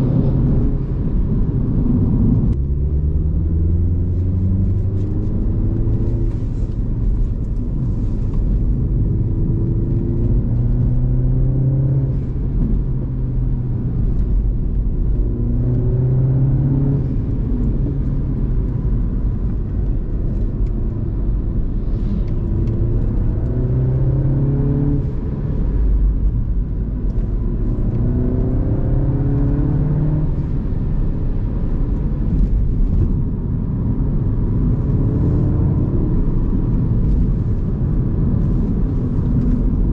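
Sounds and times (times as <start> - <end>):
car engine accelerating: 0.0 - 39.9
road noise rumble: 0.0 - 39.9.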